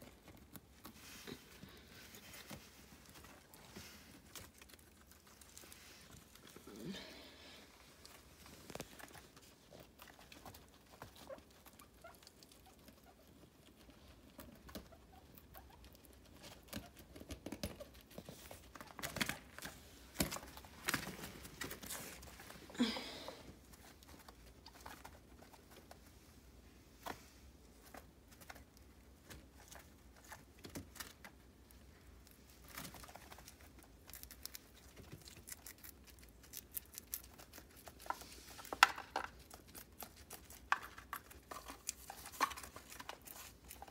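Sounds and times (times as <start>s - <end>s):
guinea pigs chewing and rustling: 0.0s - 43.9s.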